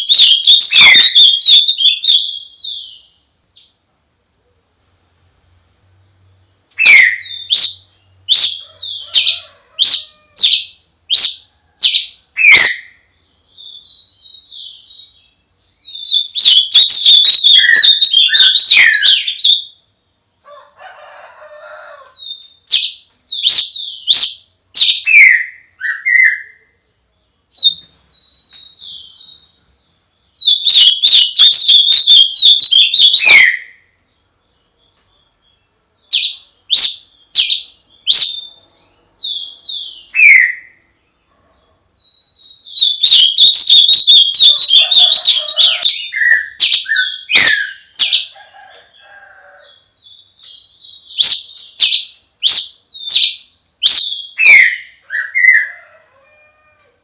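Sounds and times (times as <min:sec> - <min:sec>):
songbird chirping and twittering: 0:00.0 - 0:03.9, 0:05.6 - 0:57.0.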